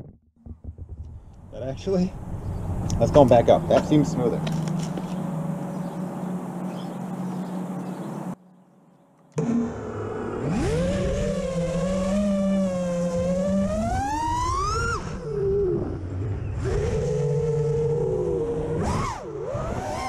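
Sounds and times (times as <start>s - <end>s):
drone motors and propellers whining: 0.5s - 8.4s, 9.2s - 20.0s.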